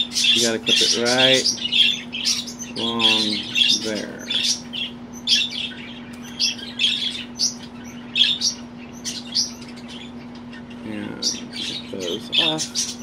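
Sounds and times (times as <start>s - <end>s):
budgerigar chirping: 0.0s - 13.0s.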